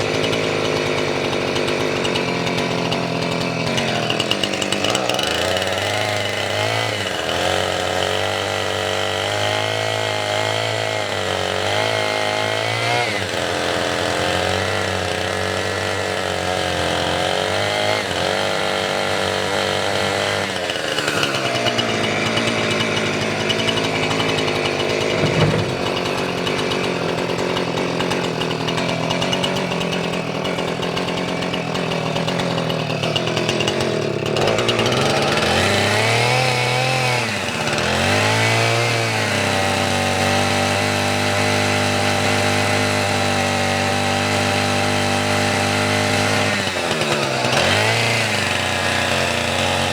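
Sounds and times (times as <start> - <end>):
chainsaw cutting logs: 0.0 - 49.9.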